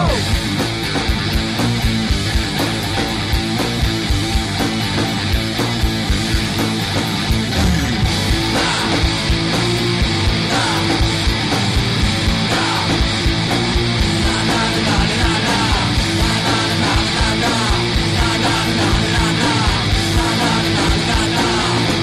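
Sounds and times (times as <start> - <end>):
rock song with electric guitar: 0.0 - 22.0.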